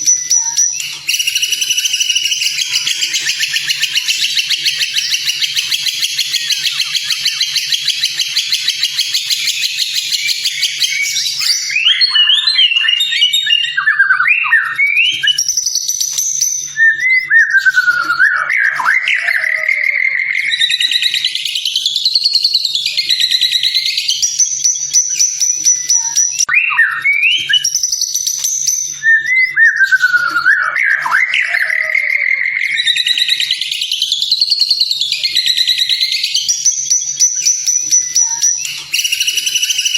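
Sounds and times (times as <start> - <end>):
bird singing: 0.0 - 39.9
fluty whistled bird phrases: 0.0 - 39.9
rapid buzzy bird trill: 0.0 - 39.9.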